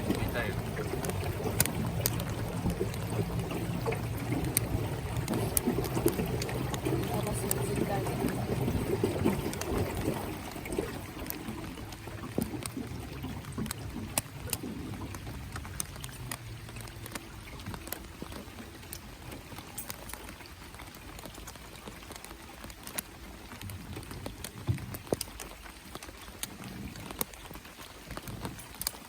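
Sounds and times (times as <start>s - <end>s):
light rain drops ticking: 0.0s - 29.0s.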